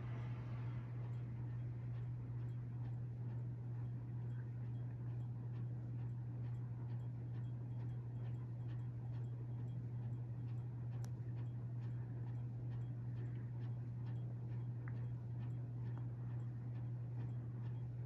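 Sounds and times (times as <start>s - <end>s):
ceiling fan motor hum: 0.0s - 18.0s
light regular ticking: 1.0s - 18.0s.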